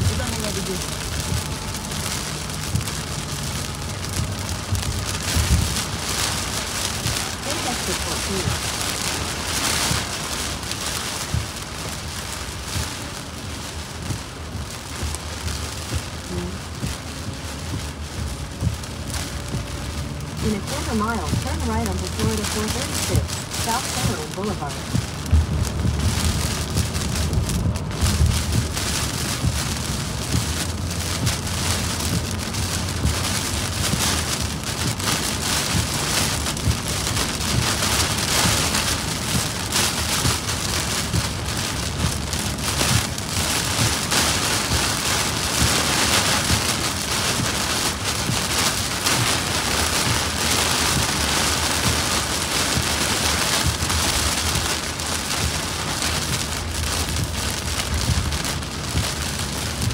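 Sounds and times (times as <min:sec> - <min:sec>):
car rumble on wet road: 0:00.0 - 0:59.9
rain on car windshield and roof: 0:00.0 - 0:59.9.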